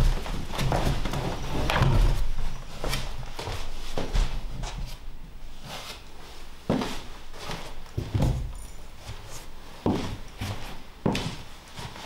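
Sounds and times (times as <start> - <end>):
heavy footsteps on wooden floor: 0.0 - 5.0, 6.6 - 12.0.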